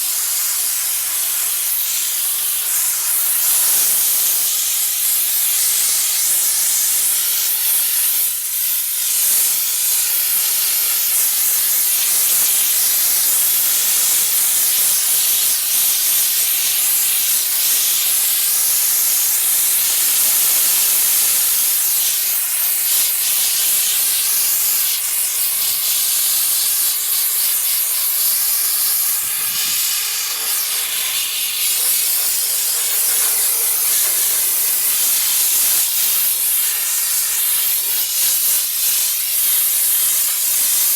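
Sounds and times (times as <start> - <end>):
steam jet hissing: 0.0 - 40.9.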